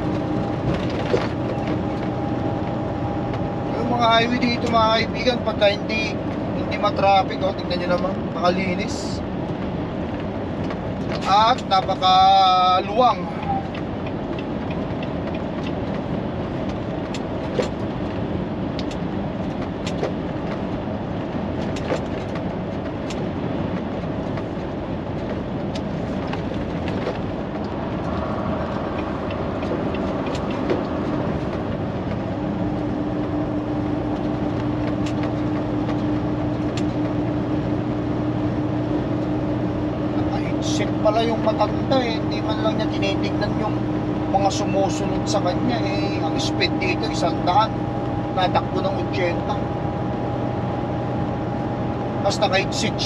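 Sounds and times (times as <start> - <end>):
truck engine and road noise: 0.0 - 53.0.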